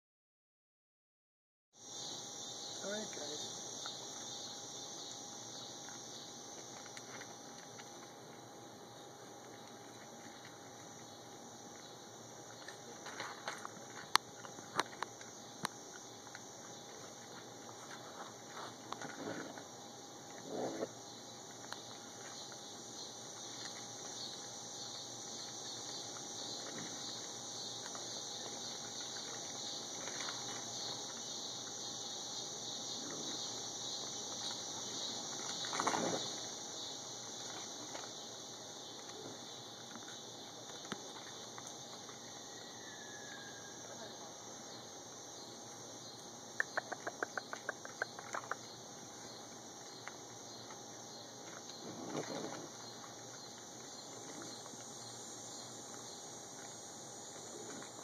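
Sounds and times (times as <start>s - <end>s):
crickets chirping: 1.8s - 58.0s
high-pitched insect chorus: 1.8s - 58.0s.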